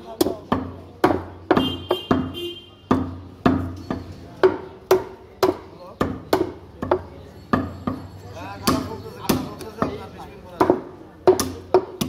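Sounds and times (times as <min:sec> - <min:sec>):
cleaver chopping meat on wood: 0:00.0 - 0:08.0, 0:08.6 - 0:12.0.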